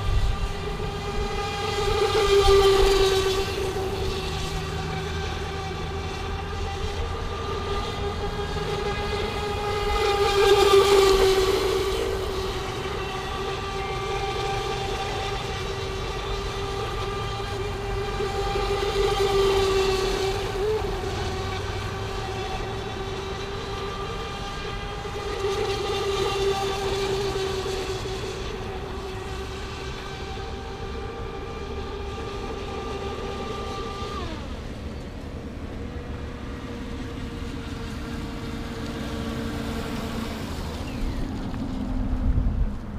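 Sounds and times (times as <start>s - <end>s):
model speedboat motor whining: 0.0s - 42.9s.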